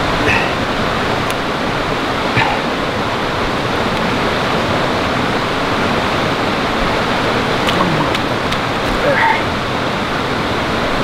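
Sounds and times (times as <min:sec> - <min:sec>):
fast-flowing water rushing: 0:00.0 - 0:11.0.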